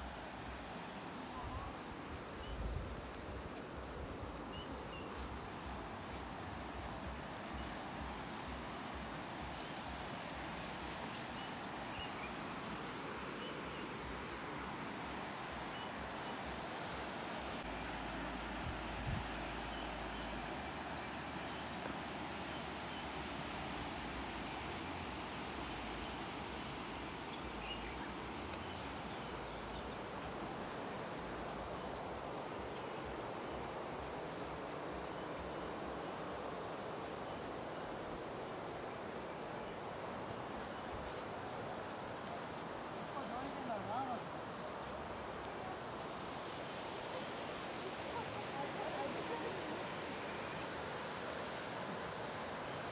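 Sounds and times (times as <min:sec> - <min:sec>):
river rapids rushing: 0:00.0 - 0:52.9.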